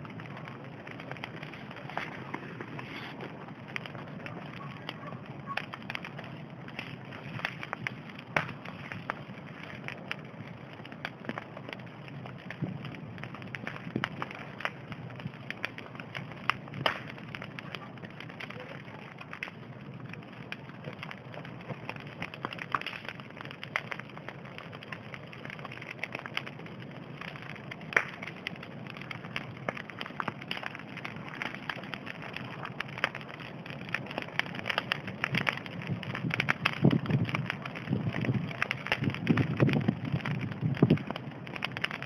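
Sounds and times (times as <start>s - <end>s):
bonfire crackling and popping: 0.0s - 42.0s.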